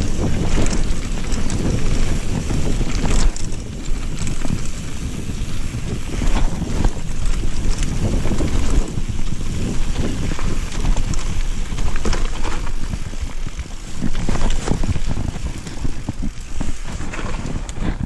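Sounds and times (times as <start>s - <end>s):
bike rattles and knocks: 0.0s - 18.0s
bike tyres rumbling on dirt: 0.0s - 18.0s.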